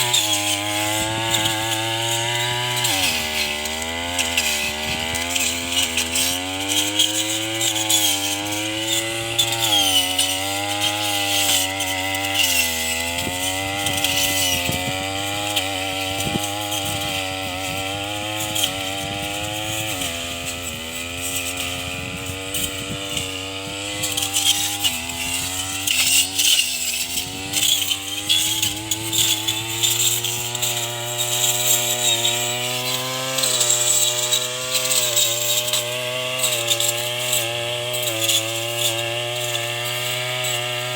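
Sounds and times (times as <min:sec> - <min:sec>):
brush cutter engine running: 0:00.0 - 0:40.9.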